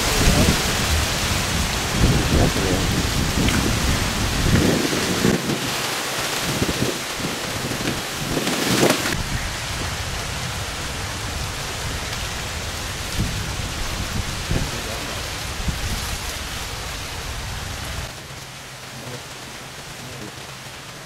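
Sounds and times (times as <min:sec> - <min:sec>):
low rumbling buffets: 0:00.0 - 0:21.0
steady rain falling: 0:00.0 - 0:21.0.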